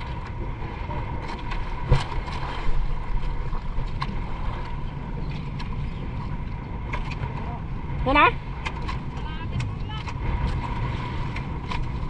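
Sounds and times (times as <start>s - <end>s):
boat engine rumble: 0.0s - 12.0s
water noise: 0.0s - 12.0s
wind: 0.0s - 12.0s.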